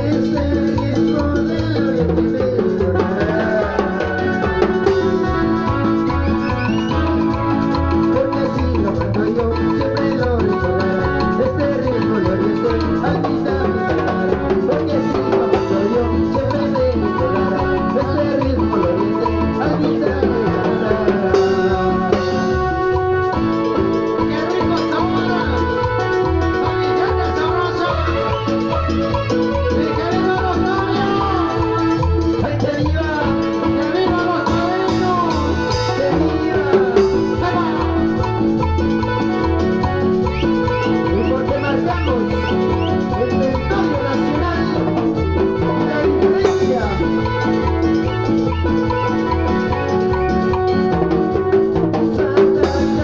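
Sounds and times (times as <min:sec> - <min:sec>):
bass and drum beat: 0:00.0 - 0:53.0
live band music: 0:00.0 - 0:53.0
melodic lead line: 0:00.0 - 0:53.0.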